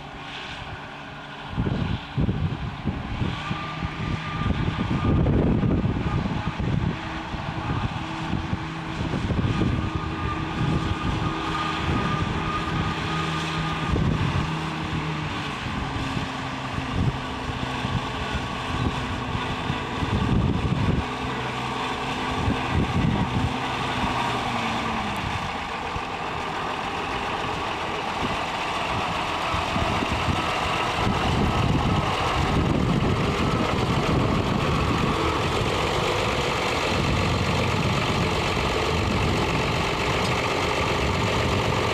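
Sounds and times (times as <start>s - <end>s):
diesel tractor engine running: 0.0s - 41.9s.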